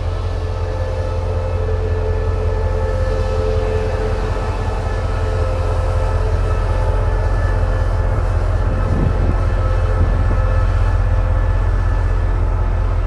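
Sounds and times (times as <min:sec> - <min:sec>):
diesel train engine rumbling: 0:00.0 - 0:13.0.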